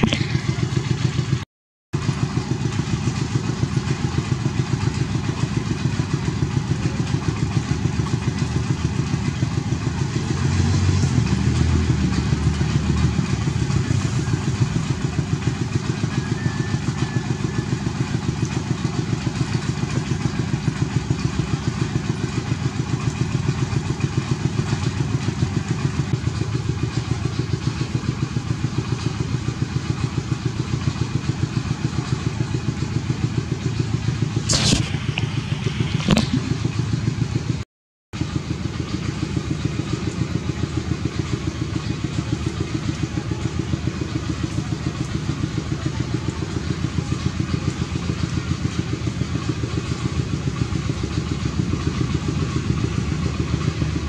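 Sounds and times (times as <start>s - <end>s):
engine running with pulsing throb: 0.0s - 37.6s, 38.2s - 54.0s.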